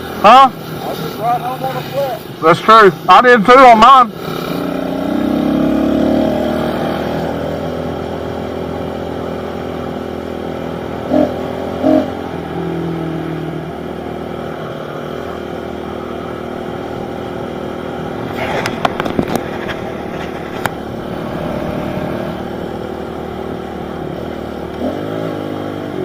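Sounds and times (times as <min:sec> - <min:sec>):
pit bike engines revving: 0:00.0 - 0:26.0.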